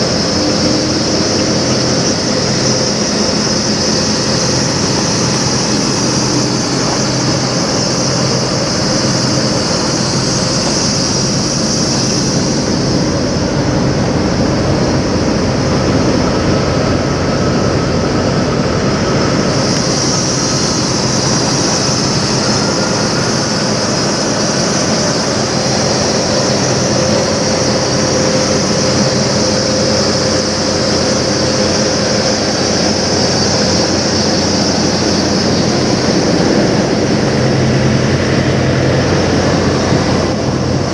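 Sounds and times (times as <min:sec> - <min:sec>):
diesel truck engines idling: 0:00.0 - 0:40.9.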